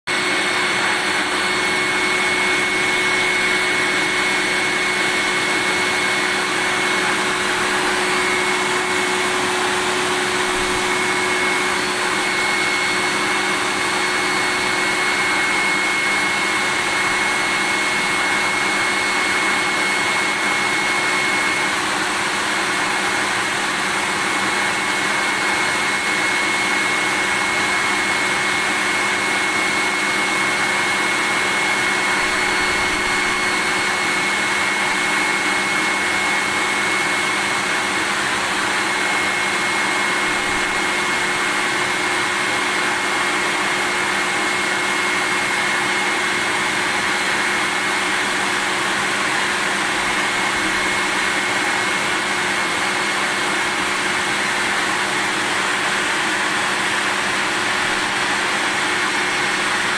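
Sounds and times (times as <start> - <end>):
vacuum cleaner running: 0.1 - 59.9.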